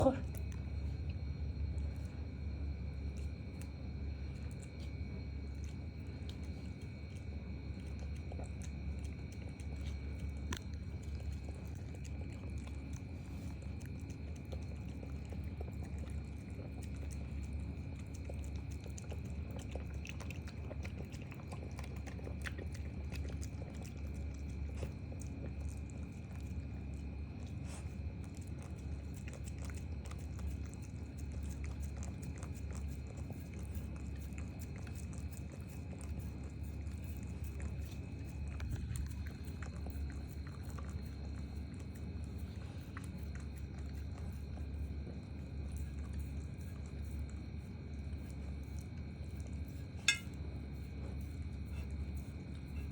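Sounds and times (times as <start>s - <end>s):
dogs chewing food: 0.0s - 52.9s
steady low hum: 0.0s - 52.9s.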